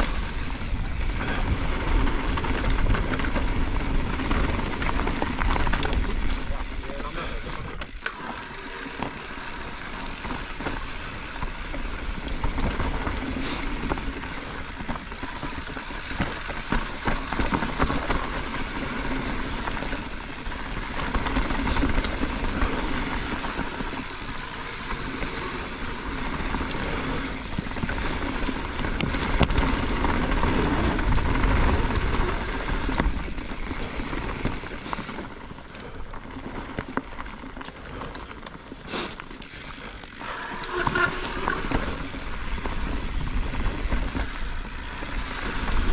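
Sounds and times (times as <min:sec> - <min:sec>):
bike rattling and clattering: 0:00.0 - 0:45.9
bike tyres rolling over gravel: 0:00.0 - 0:45.9.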